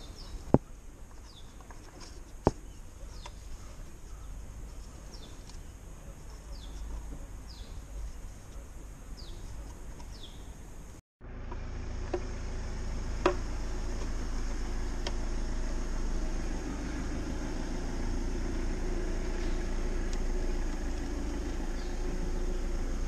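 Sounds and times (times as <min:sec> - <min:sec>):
small birds chirping: 0:00.0 - 0:11.0, 0:13.2 - 0:23.0
steady low hum: 0:00.0 - 0:23.0.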